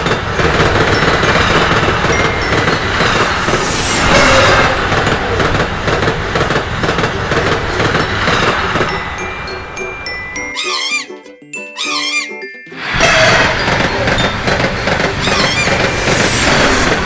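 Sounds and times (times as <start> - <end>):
high squeal: 0.0 - 5.7, 7.7 - 11.2, 11.8 - 17.0
train wheels clattering: 0.0 - 10.5, 13.0 - 17.0.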